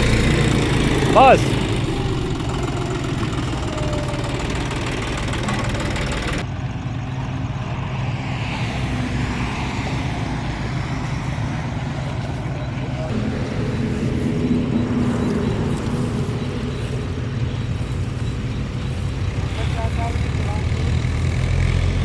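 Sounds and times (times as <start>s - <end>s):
diesel engine running at low revs: 0.0s - 22.0s.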